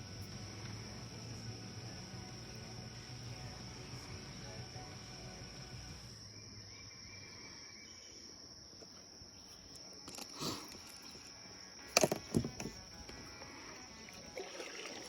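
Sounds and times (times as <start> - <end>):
insects droning high-pitched: 0.0 - 15.0.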